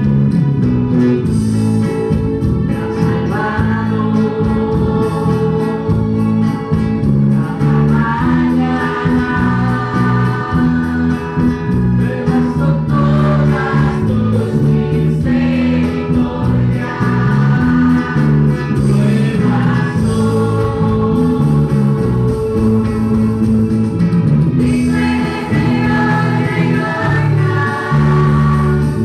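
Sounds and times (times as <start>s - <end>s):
guitars and bass playing: 0.0s - 29.0s
group voices singing: 1.2s - 29.0s
woman singing lead: 2.0s - 6.4s, 7.3s - 23.5s, 24.6s - 29.0s.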